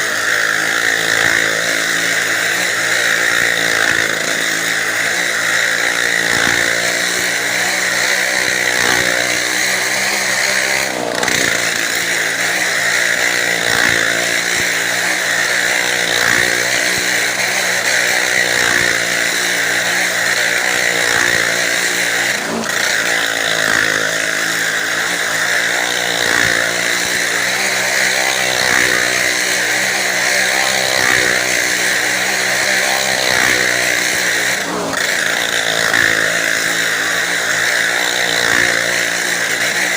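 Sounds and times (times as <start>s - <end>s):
motorcycle engines at high revs: 0.0s - 39.9s.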